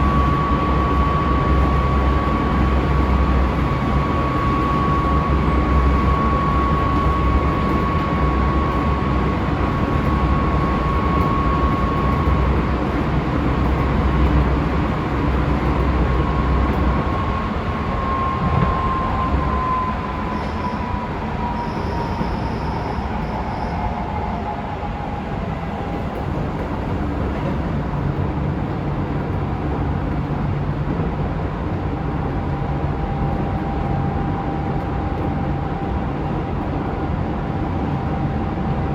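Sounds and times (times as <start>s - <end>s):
train rail rumble: 0.0s - 38.9s.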